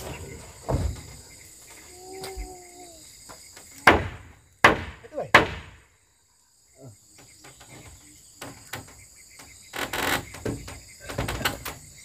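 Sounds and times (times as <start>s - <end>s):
knocks and clatters of building work: 0.0s - 2.6s, 3.2s - 5.9s, 7.0s - 12.0s
insects chirring: 0.0s - 12.0s.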